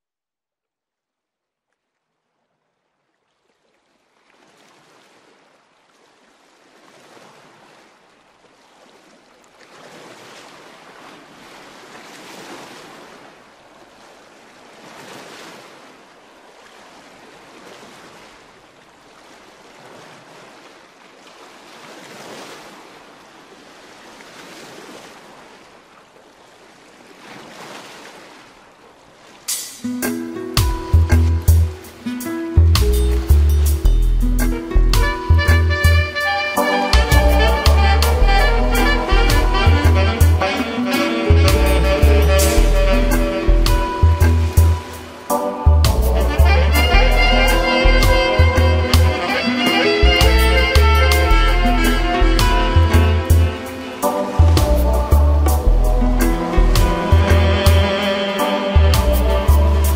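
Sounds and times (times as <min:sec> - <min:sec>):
ocean waves washing in: 0:03.6 - 0:59.9.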